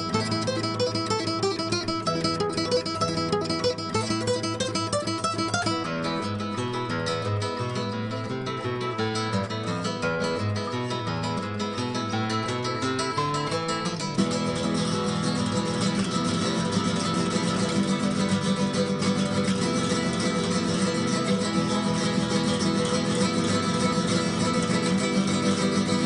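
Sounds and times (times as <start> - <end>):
flamenco guitar strumming: 0.0 - 26.0.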